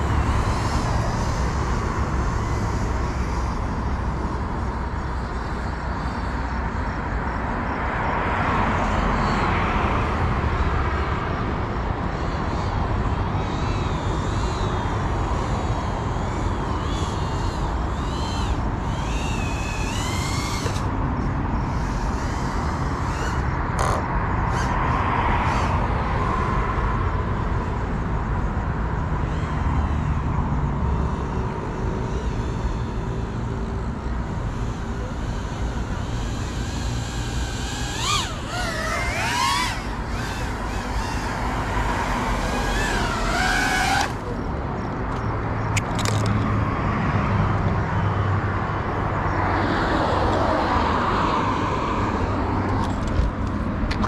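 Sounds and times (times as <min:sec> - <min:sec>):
drone motors whining: 0:00.0 - 0:50.9, 0:51.5 - 0:54.0.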